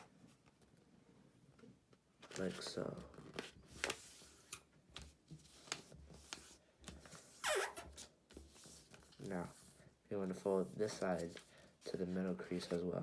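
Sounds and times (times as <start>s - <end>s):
paper being folded and creased: 2.2s - 13.0s.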